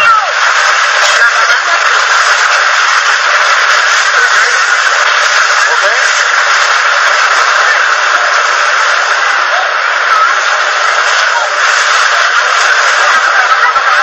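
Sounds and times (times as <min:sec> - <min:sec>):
faint voices: 0:00.0 - 0:14.0
steady rushing noise: 0:00.0 - 0:14.0.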